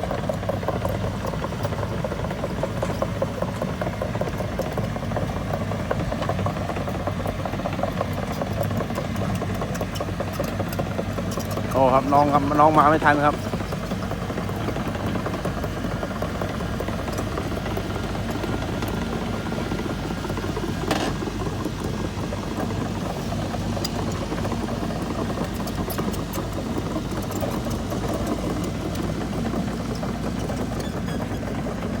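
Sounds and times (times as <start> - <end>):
engine running with low drone: 0.0 - 32.0.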